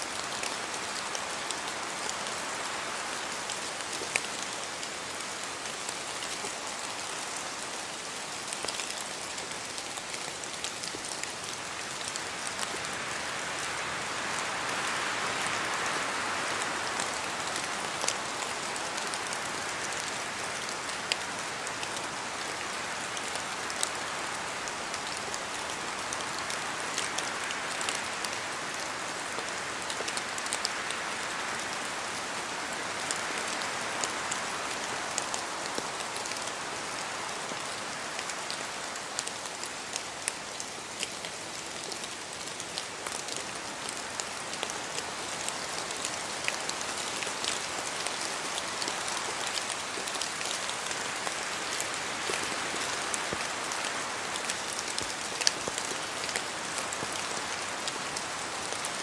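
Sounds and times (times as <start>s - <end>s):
rain falling through trees: 0.0s - 59.0s.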